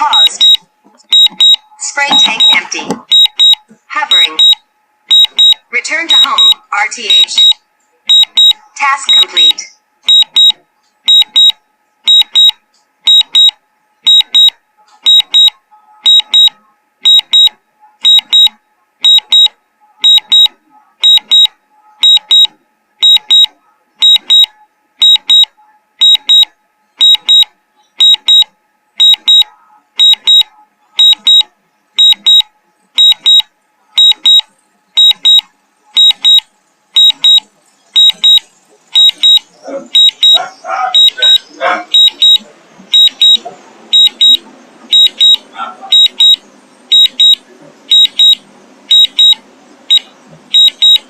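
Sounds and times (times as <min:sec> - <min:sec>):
high double beep alarm: 0:00.0 - 0:40.4, 0:41.0 - 0:51.0.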